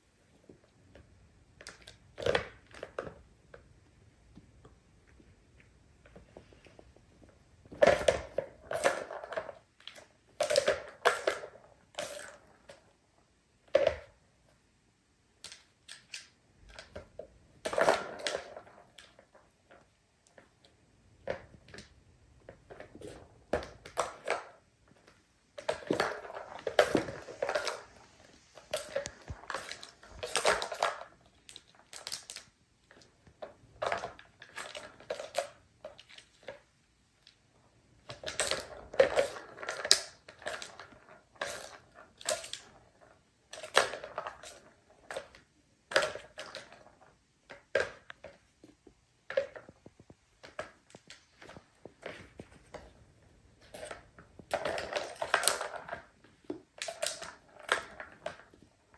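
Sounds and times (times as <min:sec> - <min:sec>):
plastic balls rolling and rattling: 0:00.3 - 0:14.6, 0:15.3 - 0:58.9.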